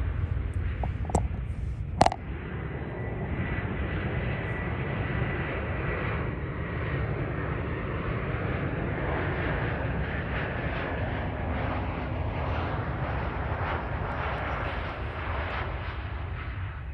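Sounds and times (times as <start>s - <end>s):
jet engine rumble with whine: 0.0s - 16.9s.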